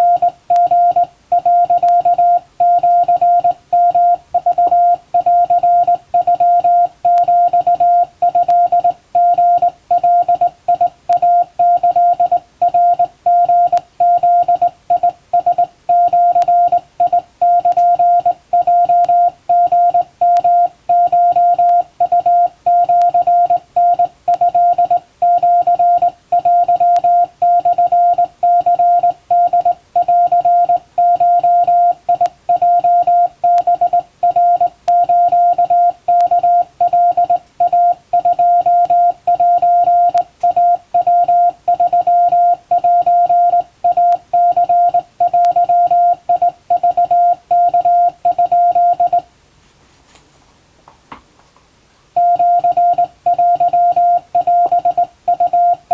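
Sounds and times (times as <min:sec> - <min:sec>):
morse code beeps: 0:00.0 - 0:49.3, 0:52.2 - 0:55.9.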